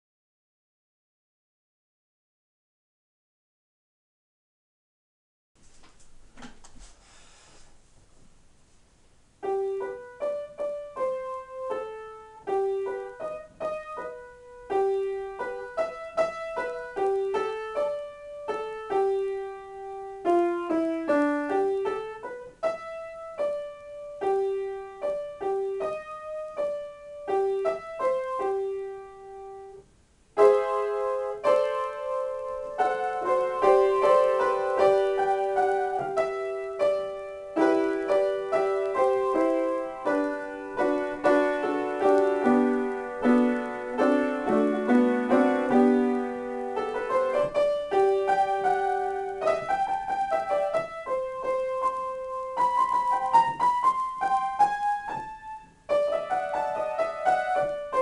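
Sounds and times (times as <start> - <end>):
acoustic piano playing: 9.2 - 58.0.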